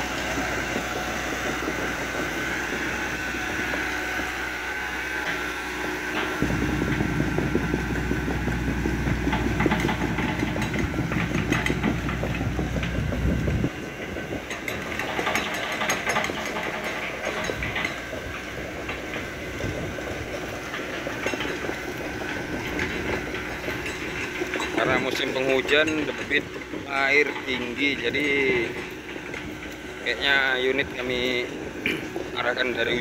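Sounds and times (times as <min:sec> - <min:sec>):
excavator engine and hydraulics: 0:00.0 - 0:33.0
heavy low rumble: 0:00.0 - 0:33.0.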